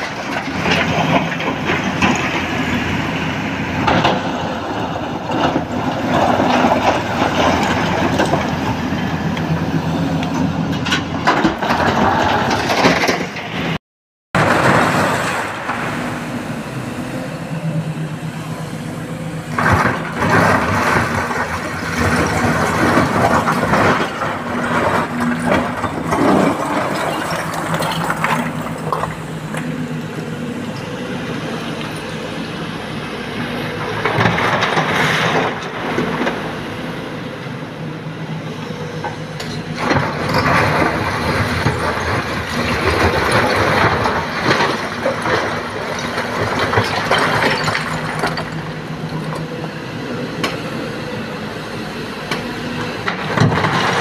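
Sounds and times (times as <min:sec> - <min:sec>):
excavator diesel engine: 0:00.0 - 0:13.8, 0:14.4 - 0:54.0.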